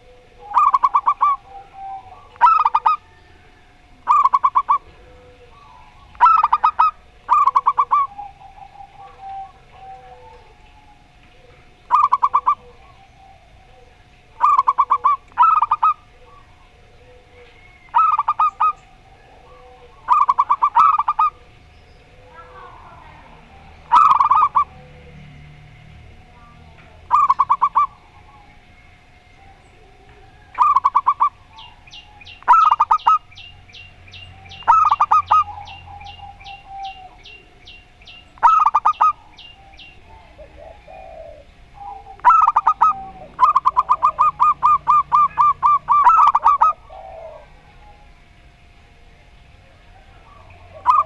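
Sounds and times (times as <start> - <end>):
doves cooing: 0.0 - 51.0.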